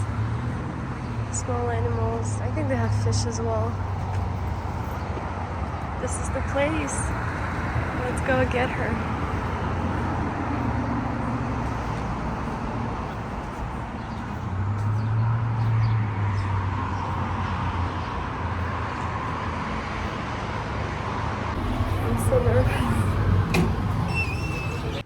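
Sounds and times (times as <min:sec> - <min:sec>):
low engine hum: 0:00.0 - 0:25.0
motor traffic rush: 0:00.0 - 0:25.0.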